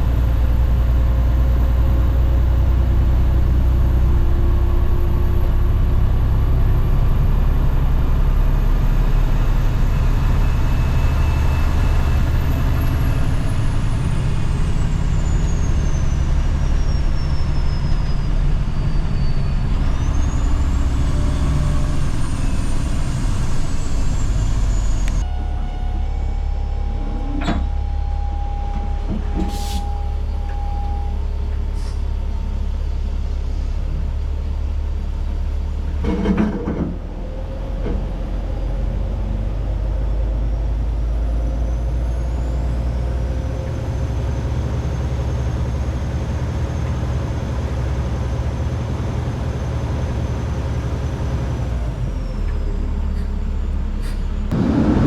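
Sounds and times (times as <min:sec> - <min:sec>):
truck diesel engine rumbling: 0:00.0 - 0:55.0.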